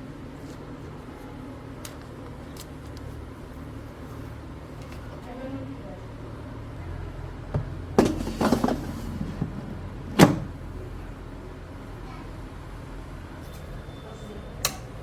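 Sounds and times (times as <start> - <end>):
low steady hum: 0.0 - 13.5.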